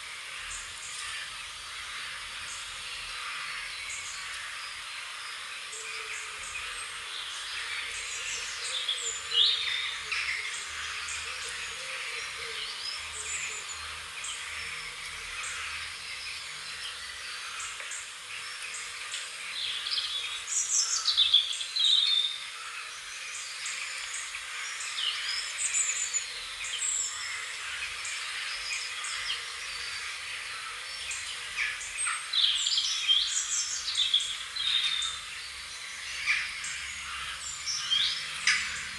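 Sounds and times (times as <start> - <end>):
songbirds chirping and singing: 0.0 - 38.9
steady background hiss: 0.0 - 38.9.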